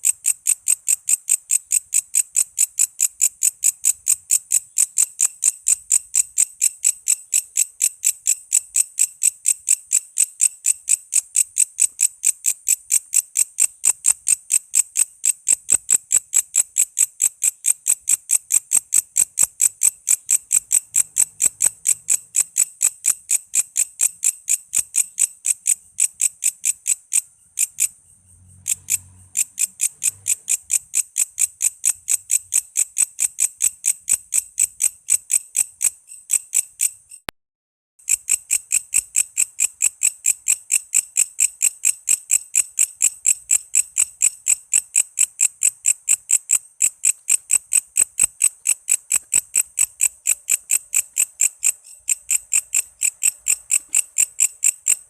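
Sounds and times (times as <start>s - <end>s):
katydid chirping: 0.0s - 37.3s, 38.0s - 55.0s.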